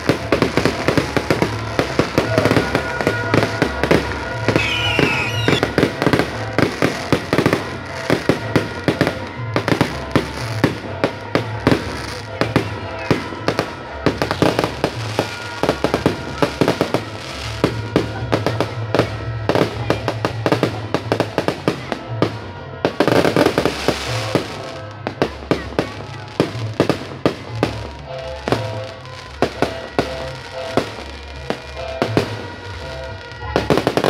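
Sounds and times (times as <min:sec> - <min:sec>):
fireworks banging and crackling: 0:00.0 - 0:34.0.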